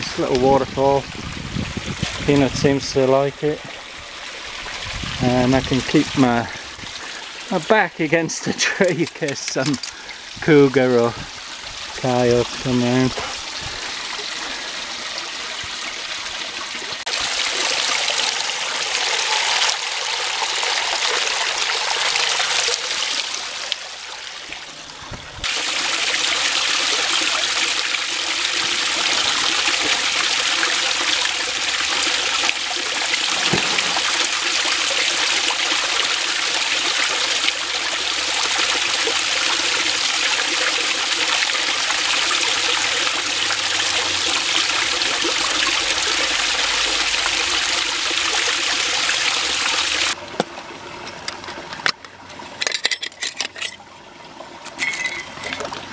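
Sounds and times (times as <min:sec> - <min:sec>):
small waterfall splashing: 0:00.0 - 0:52.7.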